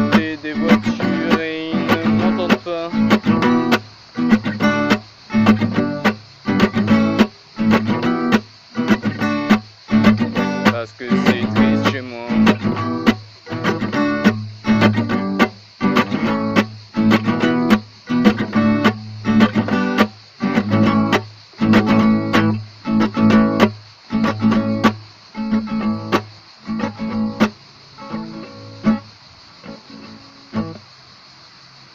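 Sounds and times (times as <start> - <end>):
guitar strumming chords: 0.0 - 30.8.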